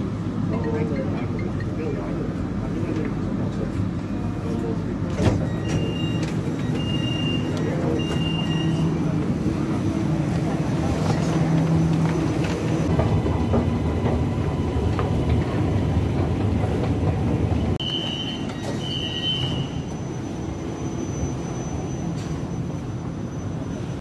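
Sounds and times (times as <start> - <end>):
metro train rumbling: 0.0 - 24.0.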